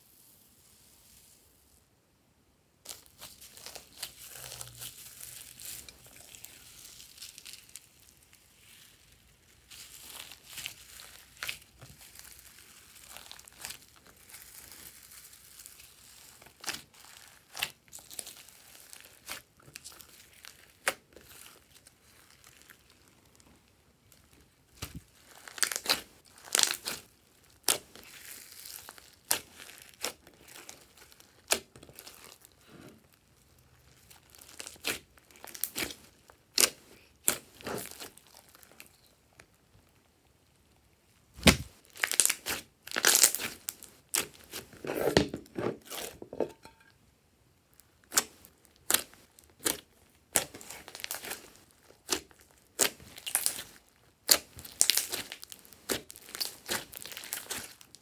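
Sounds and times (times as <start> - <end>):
sticky slime squelches: 2.9 - 46.3, 47.7 - 58.0.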